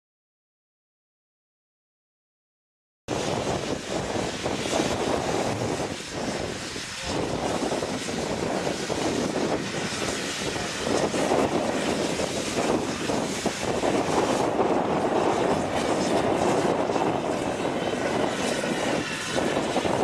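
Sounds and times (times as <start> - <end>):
steam locomotive passing: 3.1 - 20.0.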